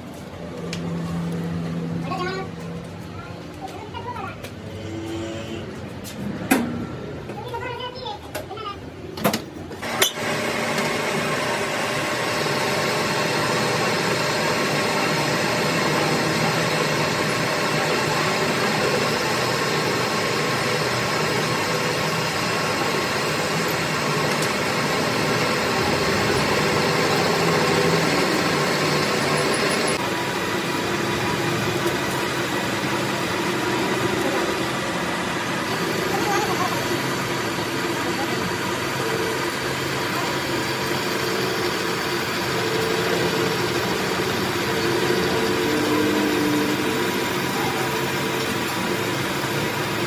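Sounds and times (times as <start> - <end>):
machine running steadily: 0.0 - 50.0.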